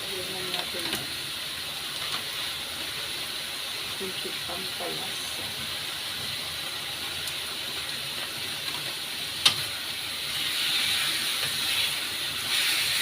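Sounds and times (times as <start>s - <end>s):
chicken sizzling in frying pan: 0.0s - 13.0s.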